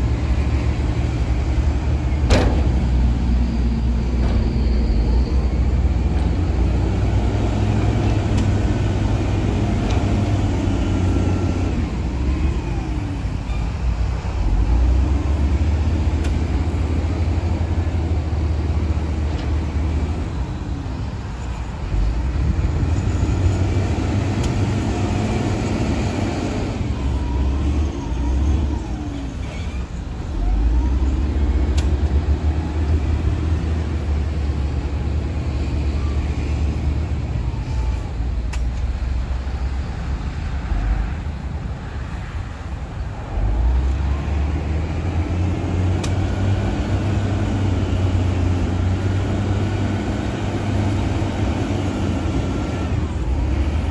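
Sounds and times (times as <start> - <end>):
bulldozer diesel engine under load: 0.0 - 53.9.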